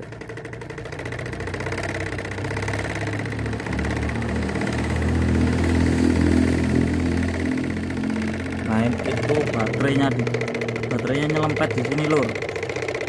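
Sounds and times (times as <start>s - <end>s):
small tractor engine revving: 0.0s - 13.0s.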